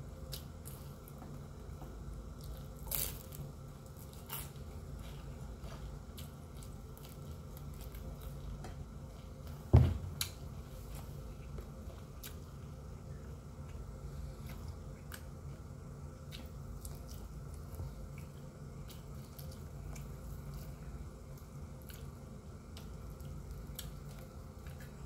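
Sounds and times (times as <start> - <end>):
chewing crunchy fried food: 0.0 - 25.0
steady low hum: 0.0 - 25.0.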